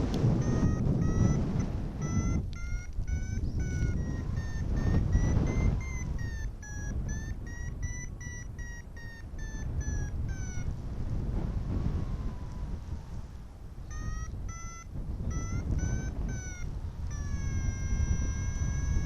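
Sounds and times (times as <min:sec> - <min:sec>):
variometer beeping rapidly: 0:00.0 - 0:10.9, 0:13.8 - 0:19.0
wind rumbling on microphone: 0:00.0 - 0:19.0.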